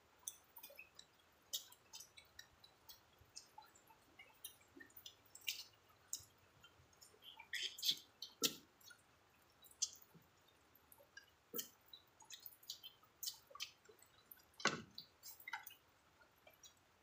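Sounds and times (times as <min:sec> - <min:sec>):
chewing and sucking meat off bones: 0:00.2 - 0:16.9.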